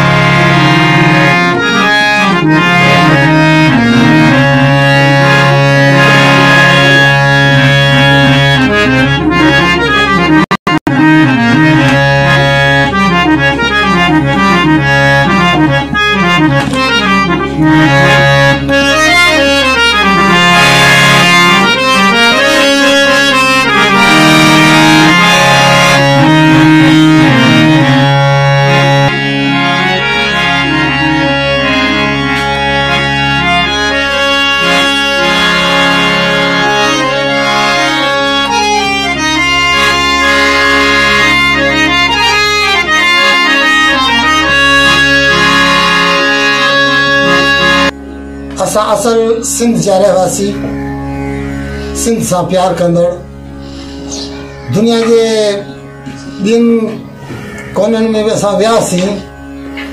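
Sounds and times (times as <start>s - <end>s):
harmonium melody over drone: 0.0s - 59.9s.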